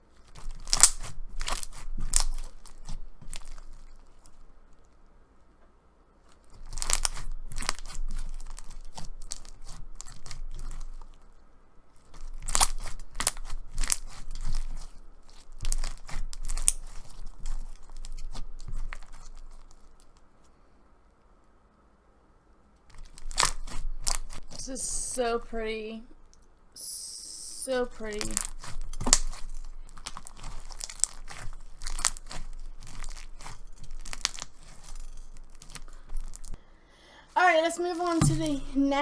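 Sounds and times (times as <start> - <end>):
bead slime crunching: 0.0 - 5.0, 6.2 - 20.5, 22.8 - 25.2, 27.5 - 36.7, 37.3 - 39.0.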